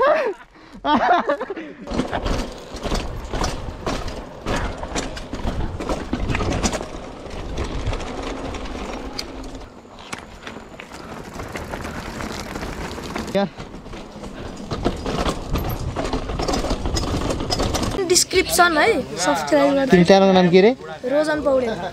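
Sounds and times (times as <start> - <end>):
mountain bike clattering: 0.9 - 21.9
tyres rumbling on stone: 1.8 - 19.8.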